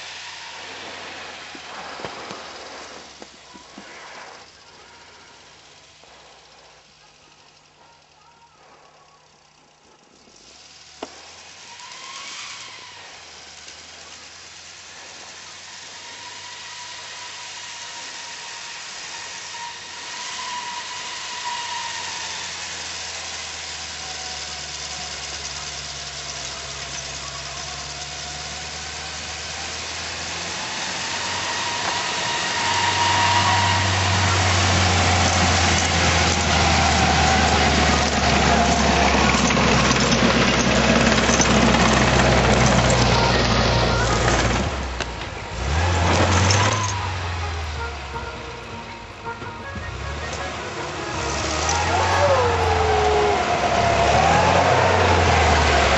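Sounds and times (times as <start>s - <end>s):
truck engine running: 0.0s - 55.9s.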